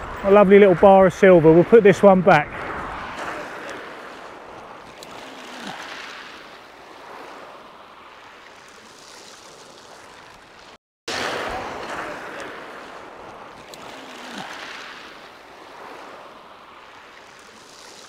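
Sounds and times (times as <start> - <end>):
surf washing on beach: 0.0 - 18.0.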